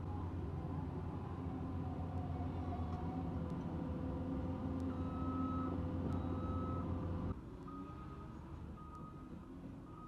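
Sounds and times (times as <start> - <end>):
construction machinery engine hum: 0.0 - 10.0.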